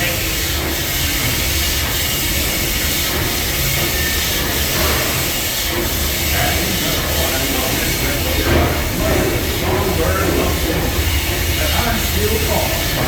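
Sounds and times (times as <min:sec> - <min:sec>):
steam train hiss and rumble: 0:00.0 - 0:13.0.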